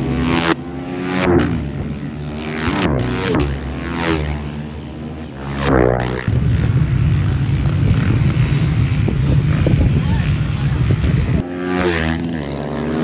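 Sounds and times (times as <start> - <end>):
engine revving: 0.0 - 9.9, 11.0 - 13.0.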